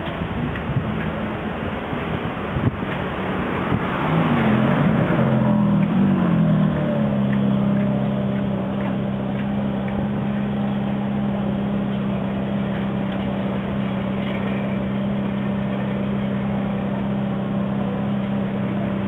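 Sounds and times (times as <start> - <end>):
vehicle interior drone and road noise: 0.0 - 19.0.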